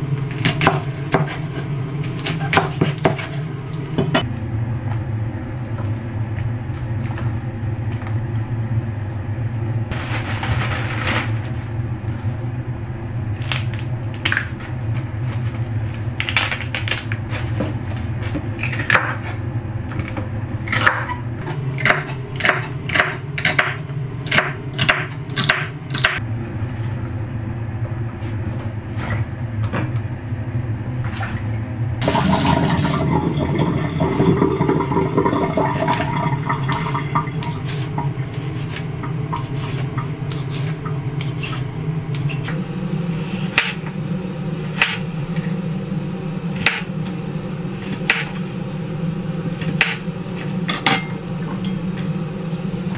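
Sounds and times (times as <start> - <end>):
low steady hum: 0.0 - 52.9.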